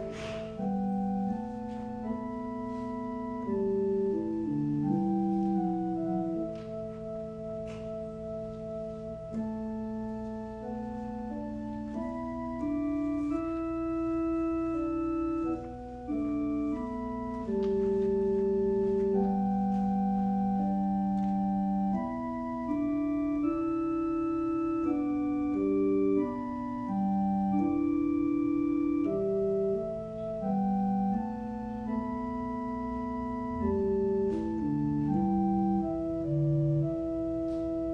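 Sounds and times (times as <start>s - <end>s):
organ playing slow chords: 0.0s - 37.9s.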